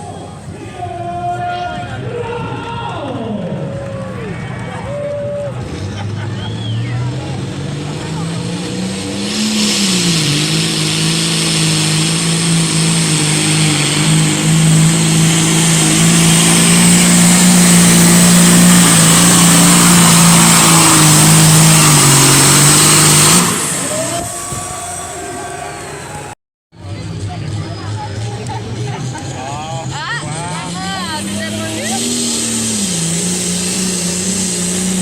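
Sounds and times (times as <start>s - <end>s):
tractor engine at full throttle: 0.0s - 35.0s.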